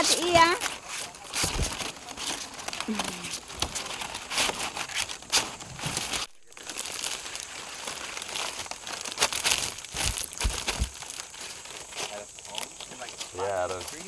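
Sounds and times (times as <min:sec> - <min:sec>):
palm fronds rustling and crackling: 0:00.0 - 0:14.0.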